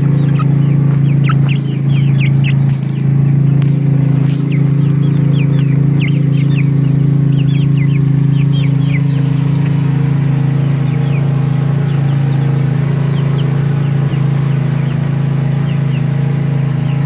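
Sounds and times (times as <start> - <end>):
chicks peeping: 0.0 - 17.0
loud low mechanical hum: 0.0 - 17.0.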